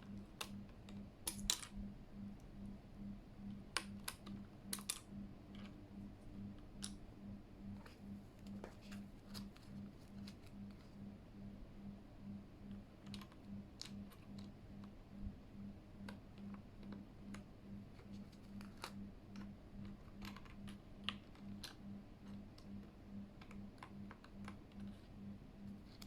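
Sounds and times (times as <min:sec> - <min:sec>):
faint pulsing low hum: 0:00.0 - 0:26.0.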